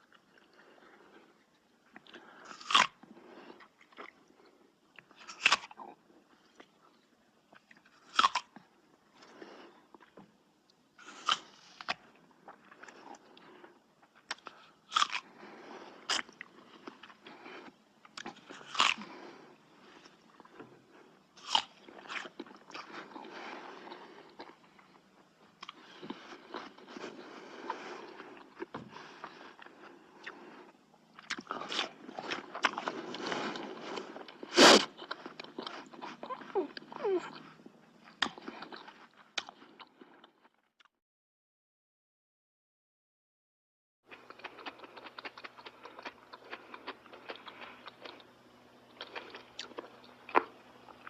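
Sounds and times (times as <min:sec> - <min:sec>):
person crunching food: 0:01.9 - 0:04.3, 0:05.0 - 0:06.8, 0:07.5 - 0:10.1, 0:11.0 - 0:25.0, 0:25.6 - 0:40.9, 0:44.1 - 0:51.0.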